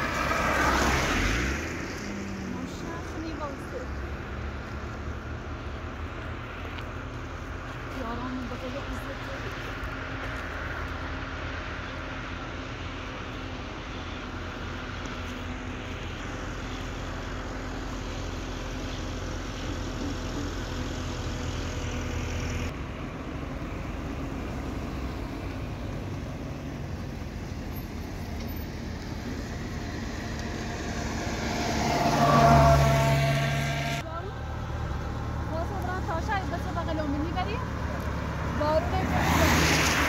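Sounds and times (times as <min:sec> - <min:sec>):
road traffic noise: 0:00.0 - 0:40.0
vehicle passing close: 0:00.0 - 0:40.0.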